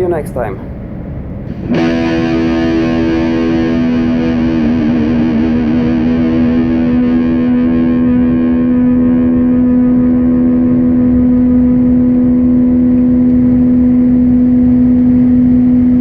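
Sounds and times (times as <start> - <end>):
distorted electric guitar chord: 1.5 - 16.0.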